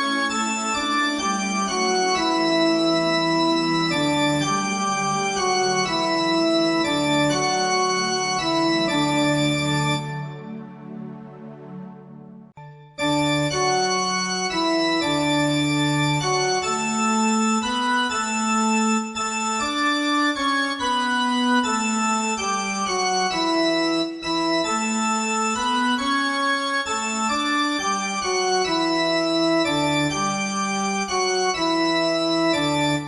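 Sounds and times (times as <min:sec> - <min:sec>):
organ playing chords: 0:00.0 - 0:33.0.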